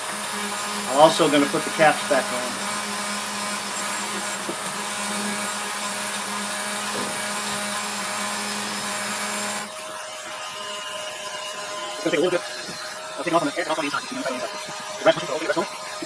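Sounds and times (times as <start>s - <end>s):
rotary tool grinding metal: 0.0s - 16.0s.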